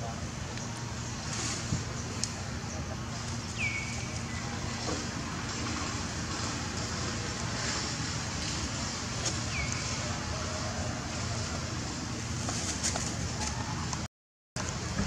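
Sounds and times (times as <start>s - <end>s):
hiss with low rumble: 0.0s - 15.0s.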